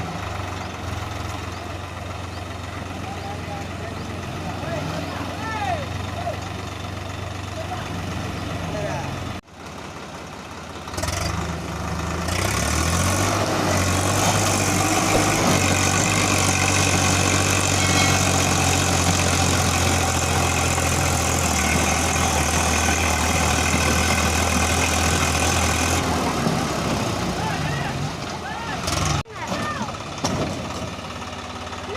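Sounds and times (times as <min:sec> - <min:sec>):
heavy diesel engine revving: 0:00.0 - 0:10.0, 0:10.7 - 0:31.9.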